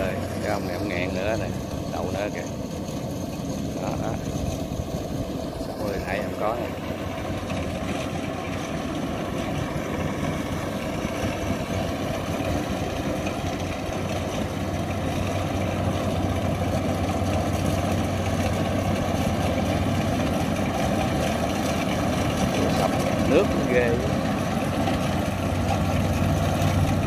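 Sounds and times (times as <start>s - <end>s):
combine harvester diesel engine: 0.0s - 27.0s.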